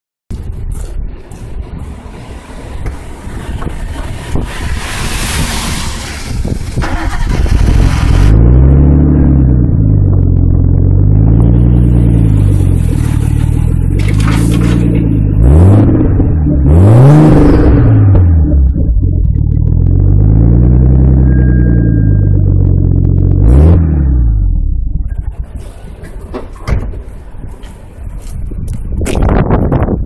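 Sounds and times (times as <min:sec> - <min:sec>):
car exhaust idling and revving: 0:00.4 - 0:30.0.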